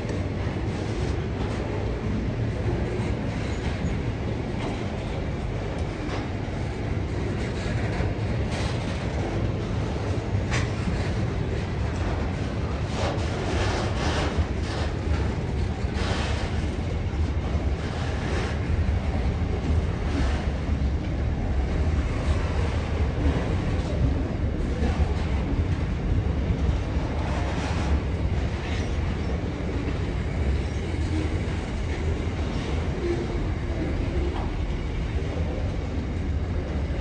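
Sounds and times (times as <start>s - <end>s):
steel wheels rumbling on rail: 0.0s - 37.0s.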